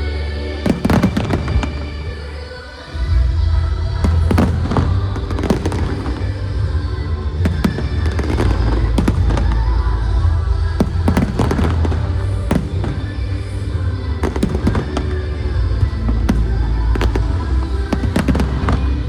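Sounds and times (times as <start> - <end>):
low rumble: 0.0 - 19.0
music playing: 0.0 - 19.0
fireworks cracks and bangs: 0.6 - 2.0, 4.0 - 19.0.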